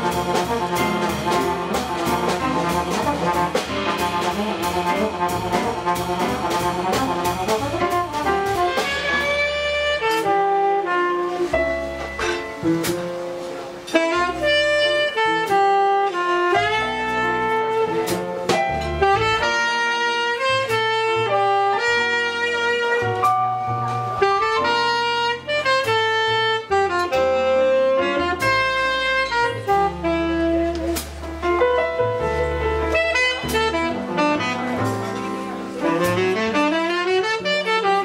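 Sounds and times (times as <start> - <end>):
drums with cymbal strokes: 0.0 - 38.0
tenor saxophone jazz melody: 0.0 - 38.0
upright bass: 0.0 - 38.0.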